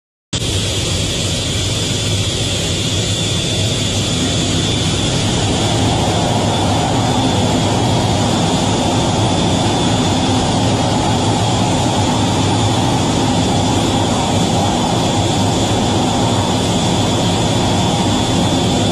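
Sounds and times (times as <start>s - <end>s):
jet engines roaring with whine: 0.4s - 18.9s.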